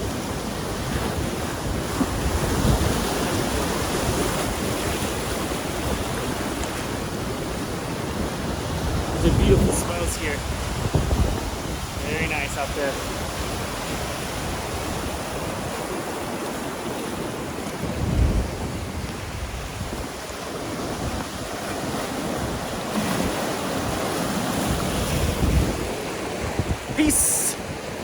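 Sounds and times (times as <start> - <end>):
wind buffeting microphone: 0.0 - 28.0
surf breaking on rocks: 0.1 - 27.6.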